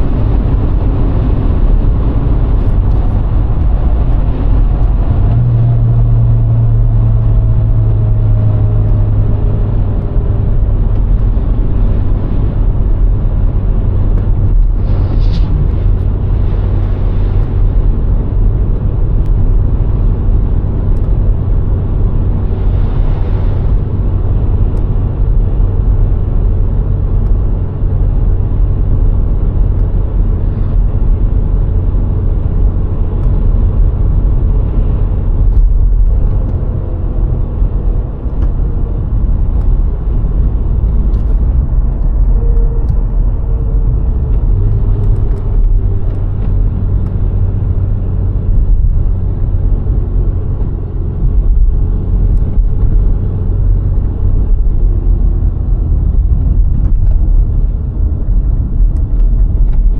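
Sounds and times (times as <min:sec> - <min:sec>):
car engine hum: 0:00.0 - 0:59.9
tyre road noise: 0:00.0 - 0:59.9.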